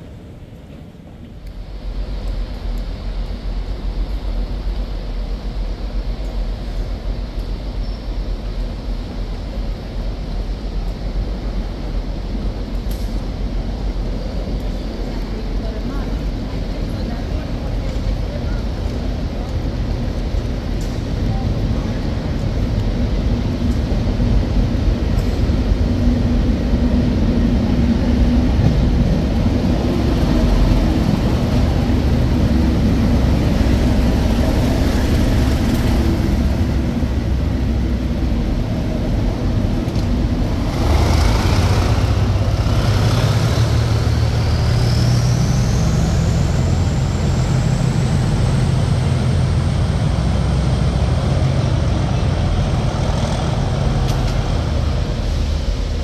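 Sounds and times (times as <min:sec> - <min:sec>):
diesel locomotive engine rumbling: 0:00.0 - 0:56.0
high engine whine: 0:00.0 - 0:56.0.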